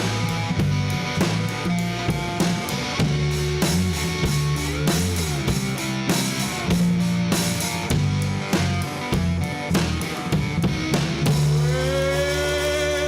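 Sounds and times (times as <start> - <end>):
drum kit steady beat: 0.0 - 13.0
slide guitar: 0.0 - 13.0.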